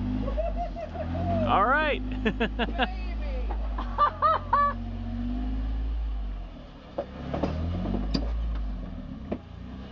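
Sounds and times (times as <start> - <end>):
car engine revving: 0.0 - 9.9.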